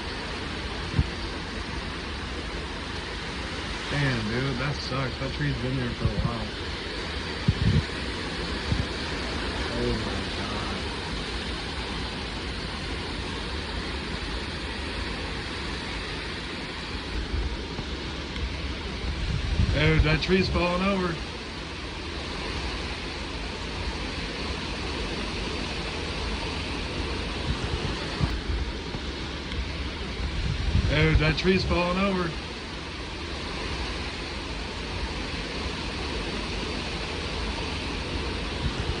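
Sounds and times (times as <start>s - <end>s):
gusty wind buffeting microphone: 0.0s - 39.0s.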